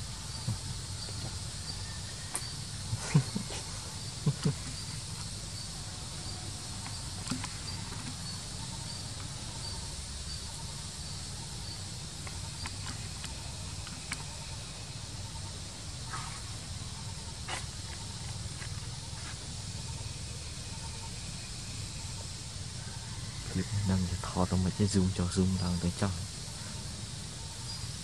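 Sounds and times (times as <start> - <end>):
insects chirping in pulses: 0.0 - 28.0.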